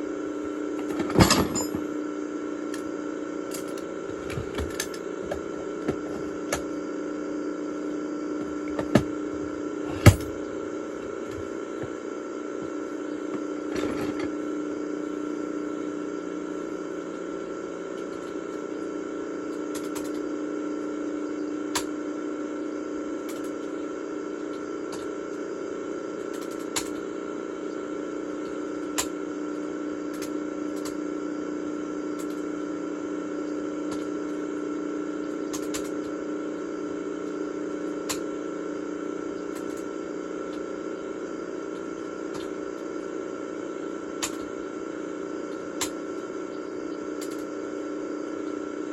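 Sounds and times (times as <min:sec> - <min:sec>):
electronic hum with held tones: 0:00.0 - 0:48.9.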